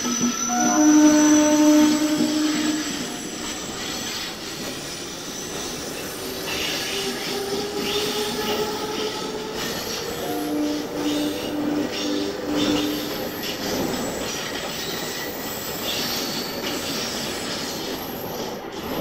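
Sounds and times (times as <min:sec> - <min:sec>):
rumble of train coaches: 0:00.0 - 0:19.0
train wheels squealing: 0:00.0 - 0:19.0.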